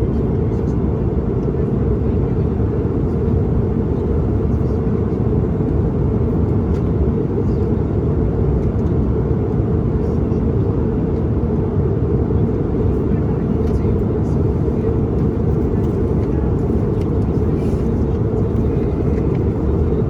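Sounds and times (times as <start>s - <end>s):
airliner cabin engine roar: 0.0s - 20.0s.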